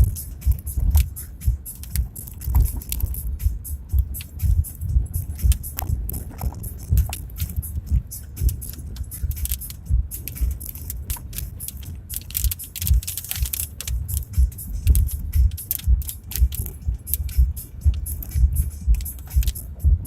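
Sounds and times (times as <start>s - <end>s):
clicks and rattles: 0.0s - 19.9s.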